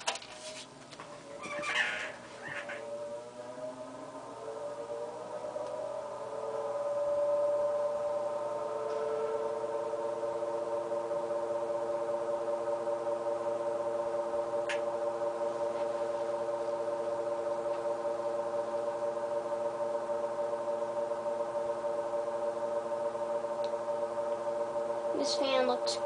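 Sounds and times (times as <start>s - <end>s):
box fan humming: 0.0s - 26.0s.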